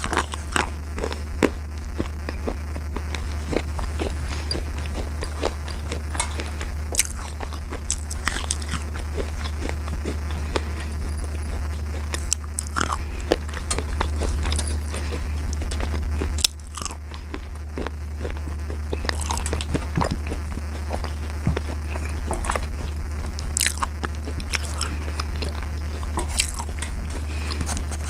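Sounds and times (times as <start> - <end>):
slate crunching when chewed: 0.0 - 28.0
steady low hum: 0.0 - 28.0.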